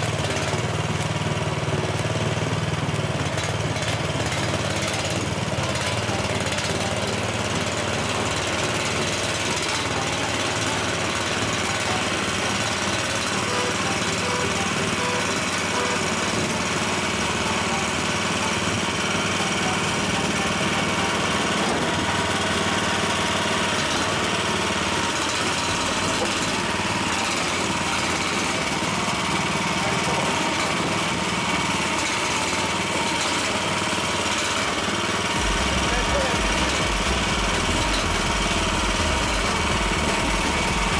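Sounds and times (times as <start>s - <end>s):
small excavator engine running: 0.0s - 40.9s
rubber tracks driving: 1.9s - 40.9s.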